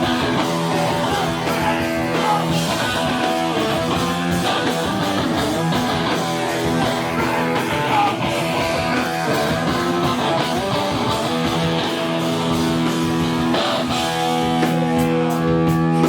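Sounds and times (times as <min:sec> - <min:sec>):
electric guitar strumming chords: 0:00.0 - 0:16.0.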